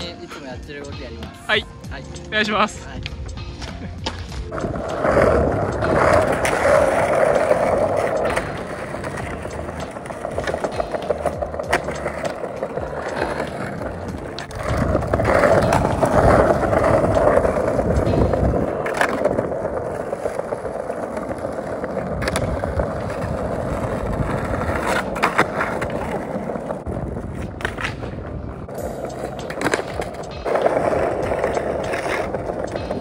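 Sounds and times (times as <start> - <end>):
skateboard clacks: 3.0 - 33.0
skateboard wheels rolling on tiles: 3.0 - 33.0.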